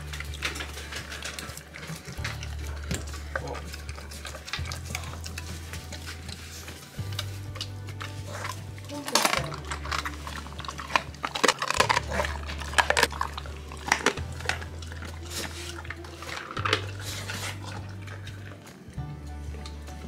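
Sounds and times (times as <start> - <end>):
dog chewing with crunches: 0.0 - 20.0.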